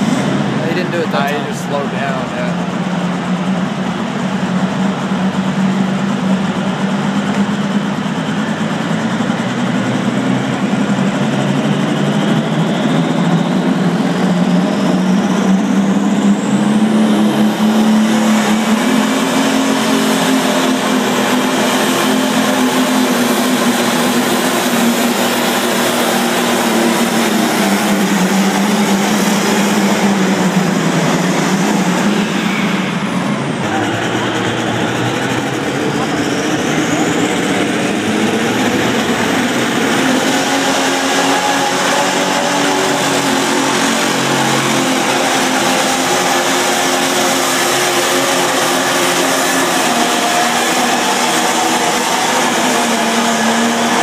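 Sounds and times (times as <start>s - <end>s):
tractor engine at high revs: 0.0s - 54.0s.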